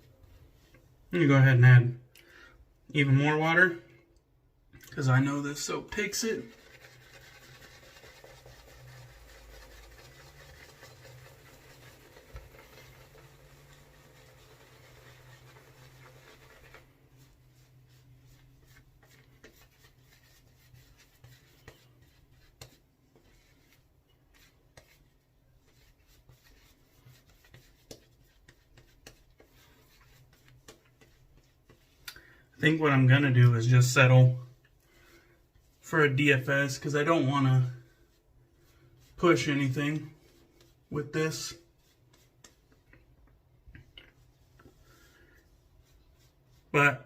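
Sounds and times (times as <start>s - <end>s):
shaving brush swishing lather: 5.3s - 32.1s, 32.8s - 43.0s, 43.8s - 47.0s.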